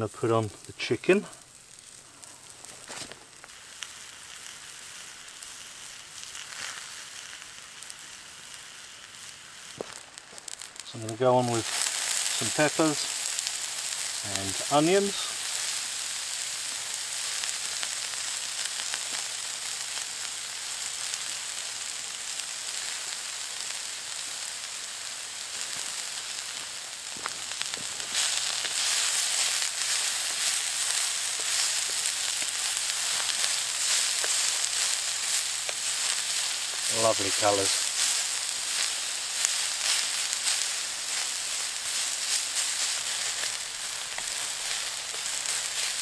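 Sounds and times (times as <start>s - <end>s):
food sizzling on hot stone: 0.0s - 46.0s.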